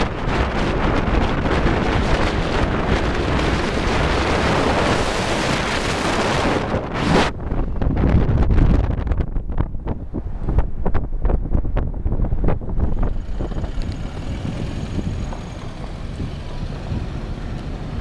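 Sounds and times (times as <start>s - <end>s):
road and engine rumble: 0.0s - 18.0s
wind buffeting microphone: 0.0s - 18.0s.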